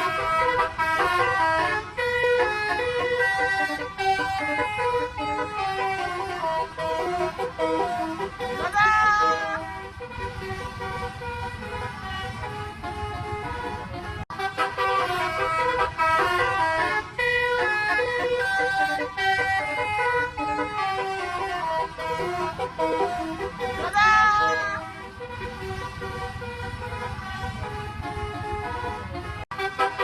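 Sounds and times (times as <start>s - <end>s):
multi-tone air horn melody: 0.0s - 30.0s.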